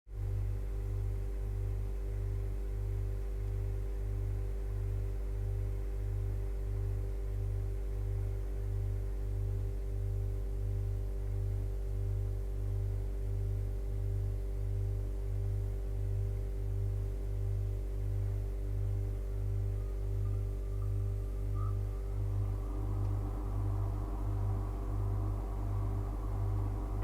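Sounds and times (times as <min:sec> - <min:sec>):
refrigerator compressor humming: 0:00.2 - 0:27.0.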